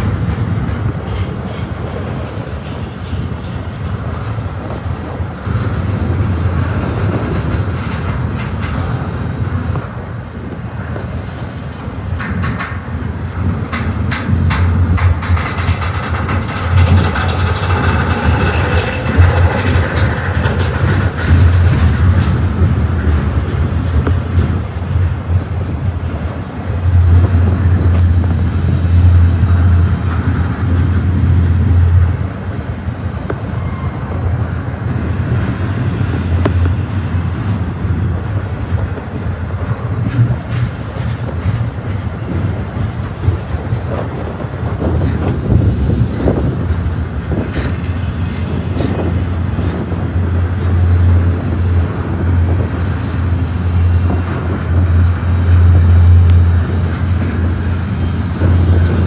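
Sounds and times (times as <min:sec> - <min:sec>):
steel wheels rumbling on rail: 0:00.0 - 0:59.0
train cars clanking: 0:00.0 - 0:59.0.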